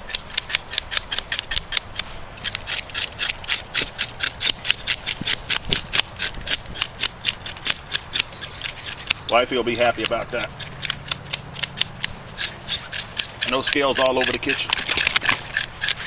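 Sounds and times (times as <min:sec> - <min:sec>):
knife scraping fish scales: 0:00.0 - 0:16.0.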